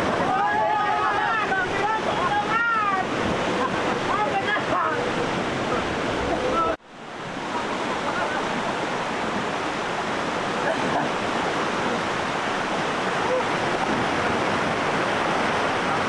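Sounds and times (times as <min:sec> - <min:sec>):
river rushing over rapids: 0:00.0 - 0:16.0.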